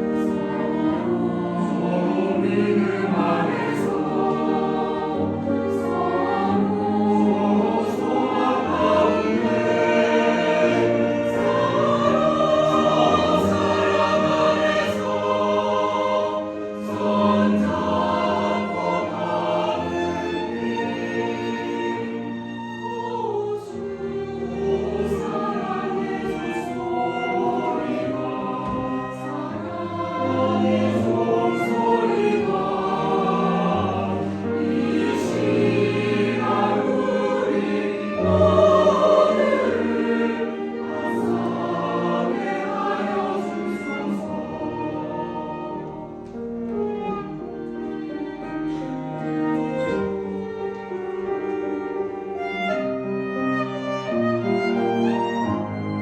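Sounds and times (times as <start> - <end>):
church choir singing a hymn: 0.0 - 56.0
piano: 0.0 - 56.0
violin and cello: 0.0 - 56.0.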